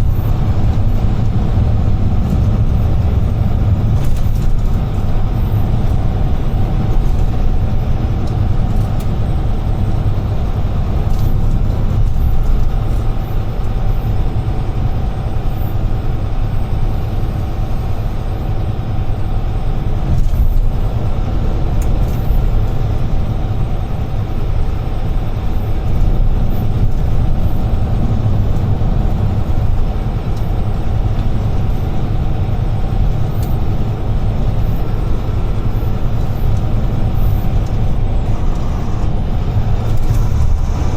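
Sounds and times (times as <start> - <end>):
heavy truck engine drone: 0.0 - 40.9
road noise: 0.0 - 40.9.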